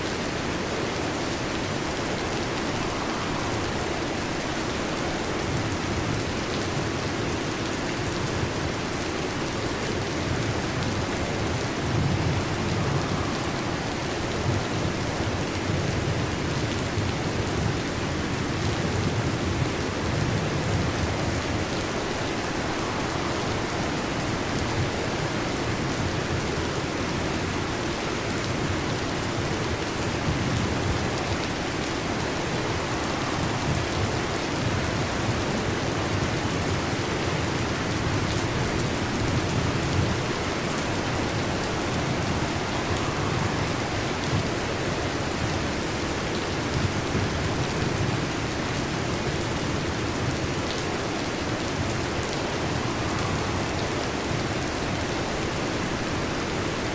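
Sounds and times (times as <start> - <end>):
heavy rain on a metal roof: 0.0 - 56.9.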